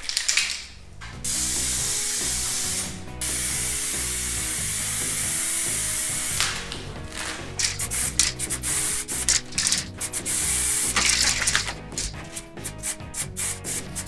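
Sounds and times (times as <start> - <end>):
aerosol can spraying: 1.2 - 14.0
short puff of spray: 1.3 - 6.6, 7.2 - 14.0.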